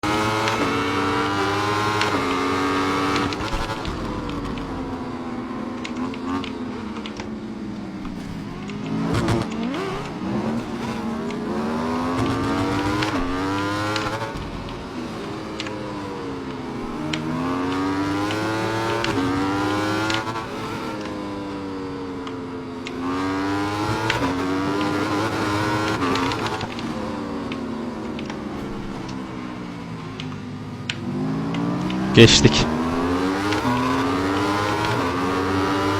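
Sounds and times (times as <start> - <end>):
motorcycle engine revving: 0.0 - 7.5, 8.2 - 35.9.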